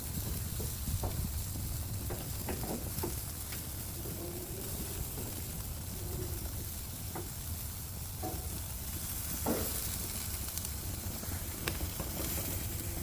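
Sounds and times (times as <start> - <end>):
chicken wings sizzling on grill: 0.0 - 13.0.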